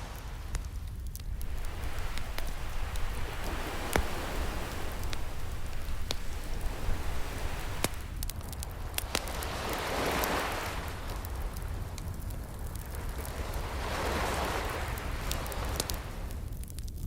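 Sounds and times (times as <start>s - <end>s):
ocean waves: 0.0s - 16.6s
wood fire crackling and popping: 0.0s - 17.0s.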